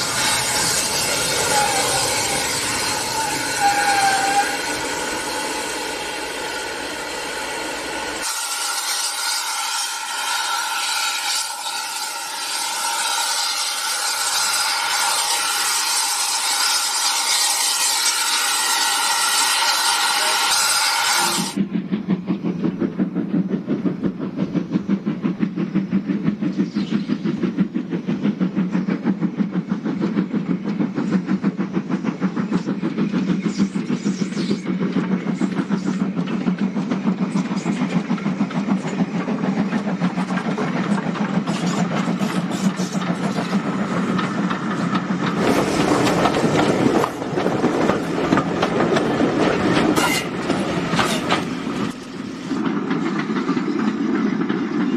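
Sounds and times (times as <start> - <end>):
steam locomotive exhaust beats: 0.0 - 54.9
train wheels clattering: 0.0 - 54.9.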